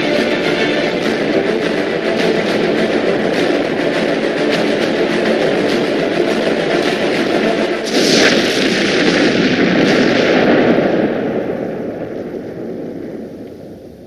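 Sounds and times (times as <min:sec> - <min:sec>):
rushing whoosh: 0:00.0 - 0:11.5
explosion rumbling: 0:00.0 - 0:14.0.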